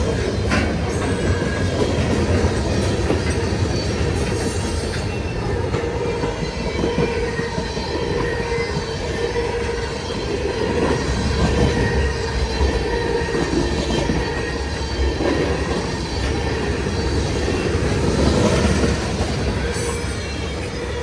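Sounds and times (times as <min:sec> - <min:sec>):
freight train cars rumbling: 0:00.0 - 0:21.0
steel wheels squealing on rail: 0:00.0 - 0:21.0.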